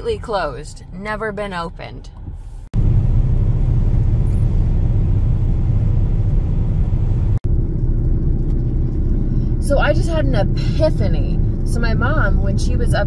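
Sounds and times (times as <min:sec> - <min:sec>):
car driving on road from inside: 0:02.1 - 0:13.0.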